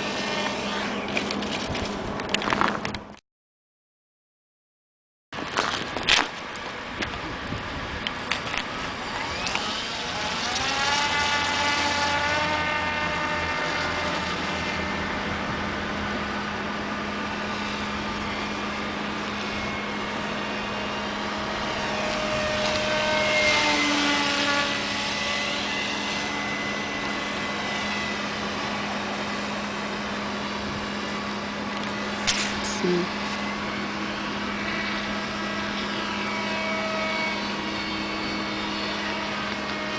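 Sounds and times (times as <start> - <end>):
electric motor and propeller whining: 0.0 - 3.2, 5.4 - 39.9.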